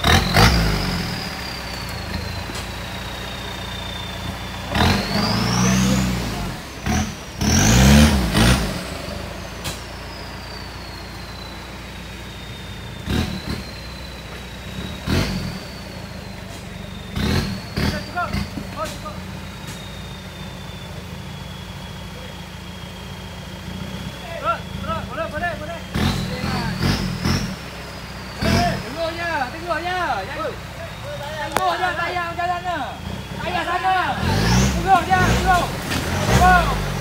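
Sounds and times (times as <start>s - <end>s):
engine revving: 0.0s - 37.0s.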